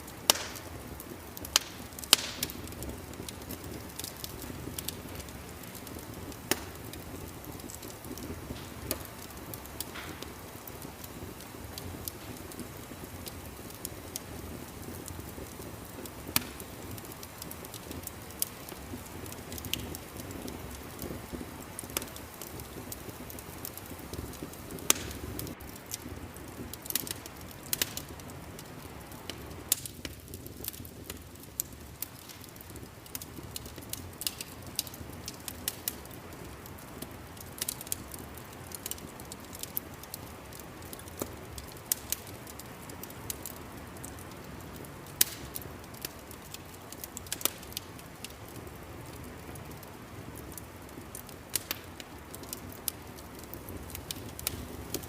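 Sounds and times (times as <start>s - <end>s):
fire popping and snapping: 0.0s - 55.0s
wood fire crackling: 0.0s - 55.0s.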